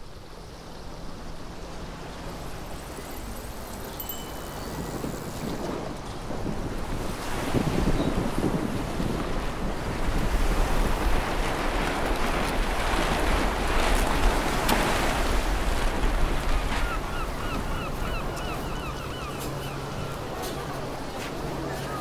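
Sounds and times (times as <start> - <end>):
choppy sea surf: 0.0 - 22.0
wind: 0.0 - 22.0
wind buffeting microphone: 3.2 - 22.0.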